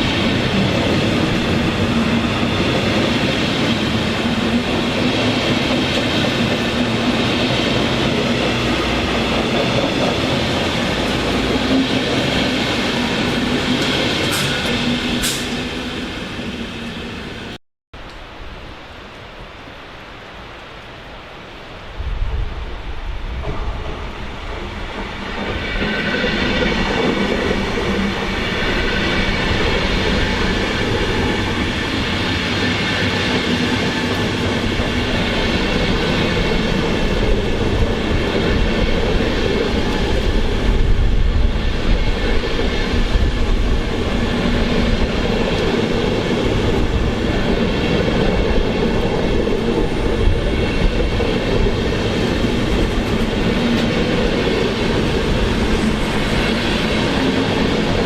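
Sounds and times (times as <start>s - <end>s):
train wheels rumbling on rails: 0.0s - 17.6s, 22.0s - 58.0s.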